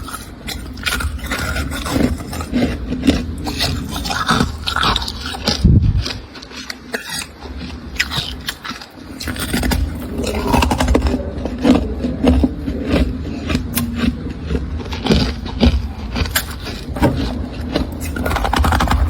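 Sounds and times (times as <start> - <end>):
low hum: 0.0 - 19.0
scraping freezer frost: 0.0 - 19.0.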